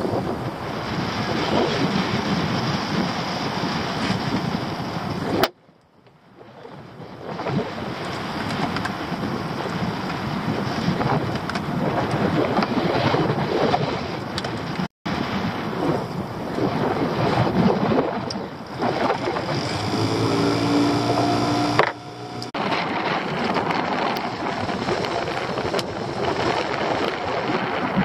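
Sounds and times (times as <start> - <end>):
wind buffeting microphone: 0.0 - 5.5, 6.2 - 28.0.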